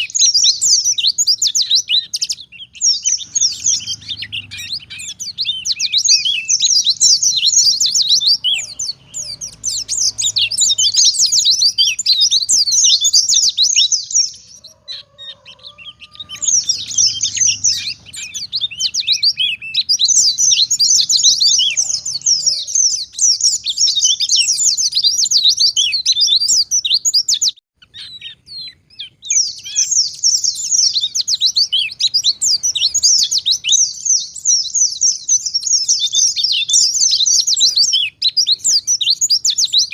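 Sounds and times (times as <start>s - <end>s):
white-eye twittering song: 0.0s - 39.9s.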